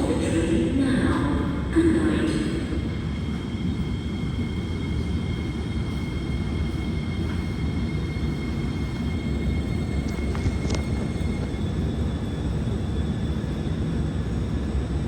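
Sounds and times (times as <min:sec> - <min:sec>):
metro train rumbling: 0:00.0 - 0:15.0.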